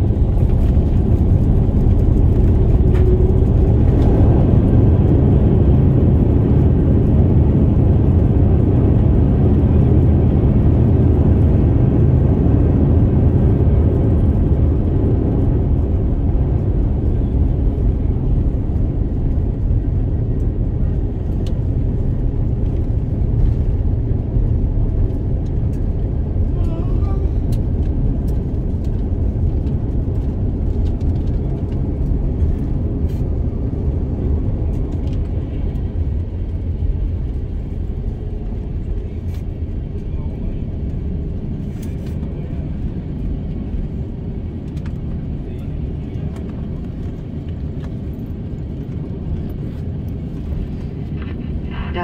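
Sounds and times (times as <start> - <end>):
aircraft cabin rumble: 0.0 - 52.0.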